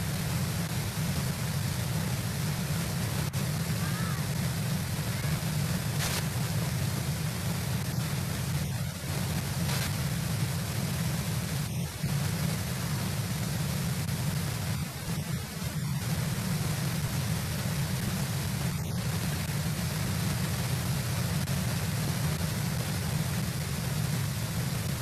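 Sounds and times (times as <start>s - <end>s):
outdoor rushing noise: 0.0s - 25.0s.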